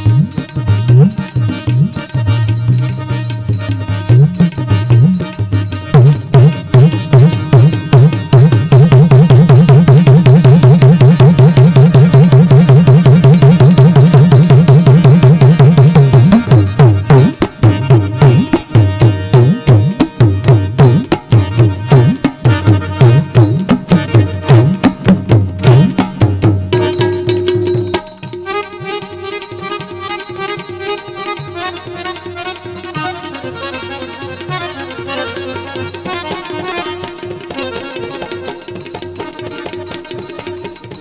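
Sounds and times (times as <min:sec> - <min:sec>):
held melodic note: 0:00.0 - 0:41.0
tabla drumming: 0:00.0 - 0:41.0.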